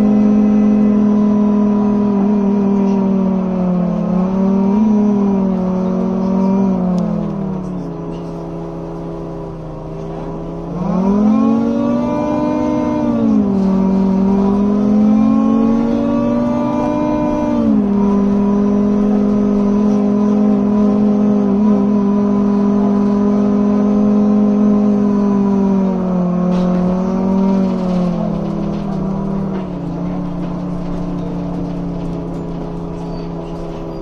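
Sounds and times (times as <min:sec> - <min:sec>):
bus cooling fans humming drone: 0:00.0 - 0:34.0.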